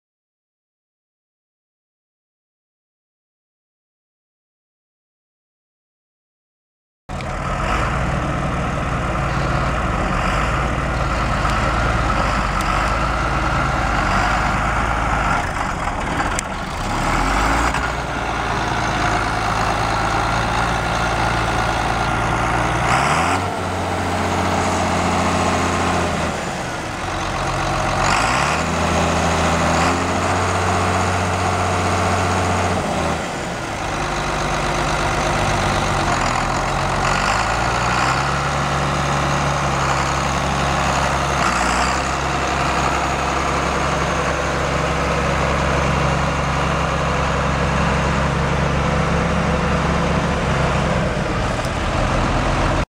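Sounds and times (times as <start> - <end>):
diesel engine idling and revving: 7.1 - 52.9.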